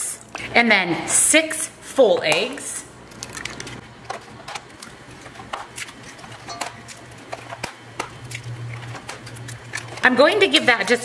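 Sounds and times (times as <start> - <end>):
eggs cracking on metal bowl: 2.1 - 11.0.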